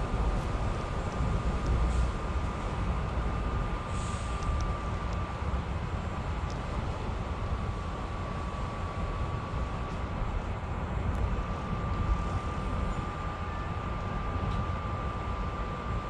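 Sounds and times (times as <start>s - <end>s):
vehicle rumble inside cabin: 0.0s - 16.0s.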